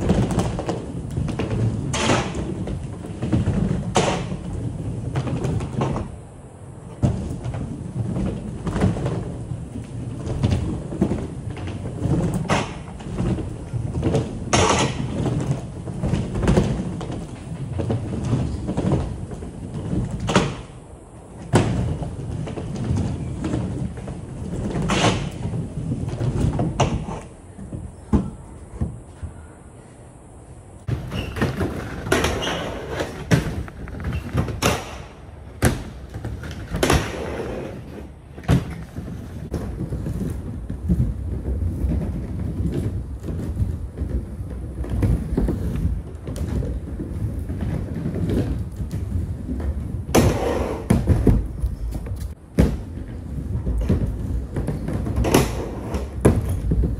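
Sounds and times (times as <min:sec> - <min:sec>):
skateboard clacking on wooden ramps: 0:00.0 - 0:06.2, 0:06.9 - 0:29.4, 0:30.9 - 0:56.9
skateboard wheels rolling on wood: 0:00.0 - 0:56.9.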